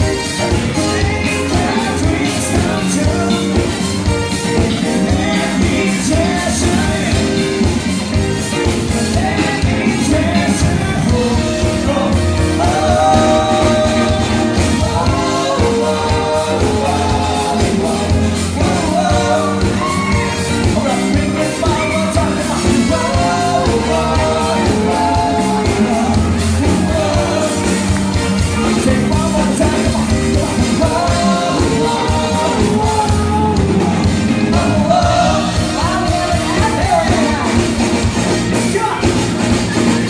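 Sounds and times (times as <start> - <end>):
man singing: 0.0 - 37.9
live band playing: 0.0 - 40.0.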